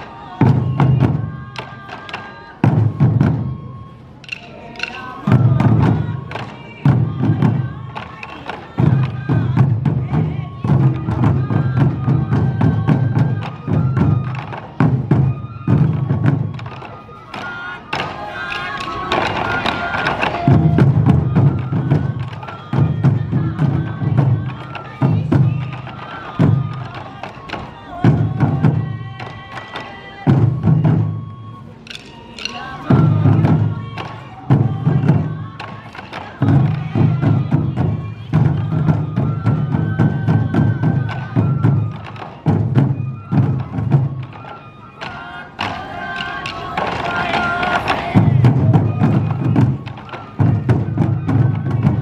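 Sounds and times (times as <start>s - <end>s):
high bamboo flute melody: 0.0s - 52.0s
taiko drums beating: 0.0s - 52.0s.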